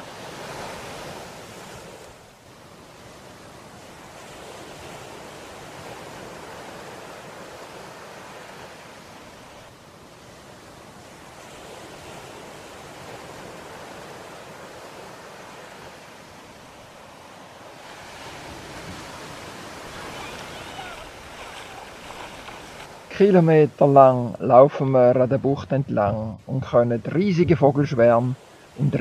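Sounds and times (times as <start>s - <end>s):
seawater washing on sandy shore: 0.0s - 29.0s.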